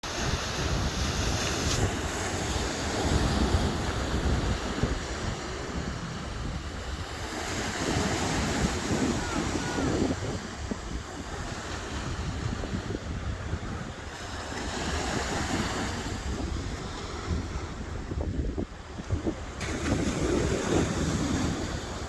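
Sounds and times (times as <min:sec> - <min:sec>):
ocean waves washing on shore: 0:00.0 - 0:22.0
wind buffeting microphone: 0:00.0 - 0:22.0.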